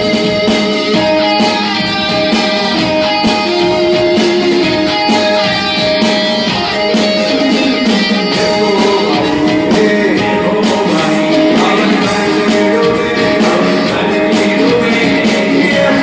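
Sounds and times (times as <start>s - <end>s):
live band playing: 0.0s - 16.0s
person singing: 0.0s - 16.0s.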